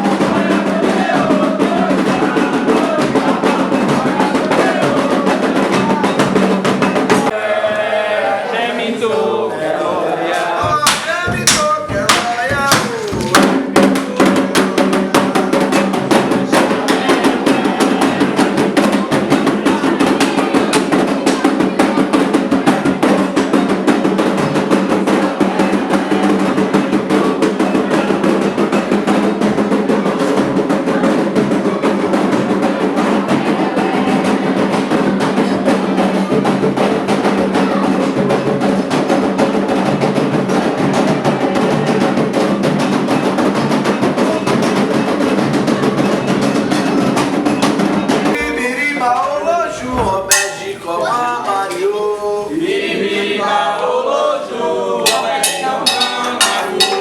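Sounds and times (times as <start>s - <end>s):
hand drums fast rhythm: 0.0s - 7.4s, 10.5s - 52.5s, 55.0s - 57.0s.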